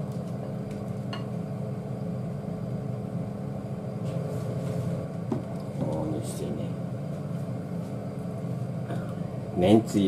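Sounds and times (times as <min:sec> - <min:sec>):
kitchen fan humming: 0:00.0 - 0:10.0.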